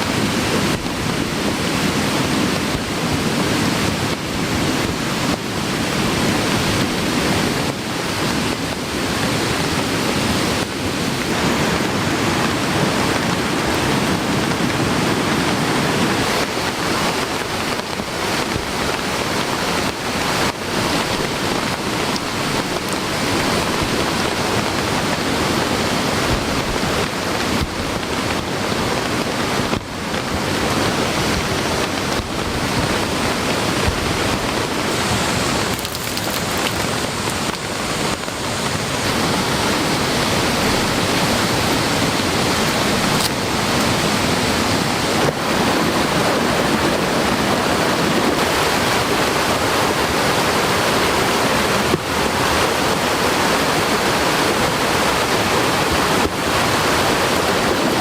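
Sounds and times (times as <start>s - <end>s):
fast-running mountain stream: 0.0s - 58.0s
heavy rain falling: 0.0s - 58.0s.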